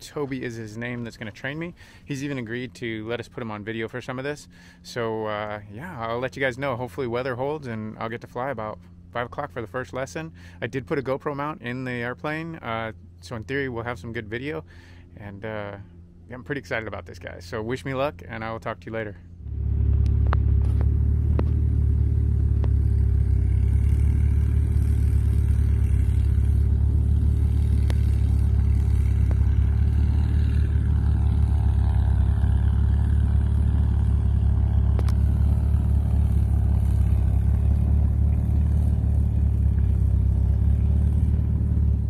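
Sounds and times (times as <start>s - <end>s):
light aircraft engine drone: 0.0s - 42.0s.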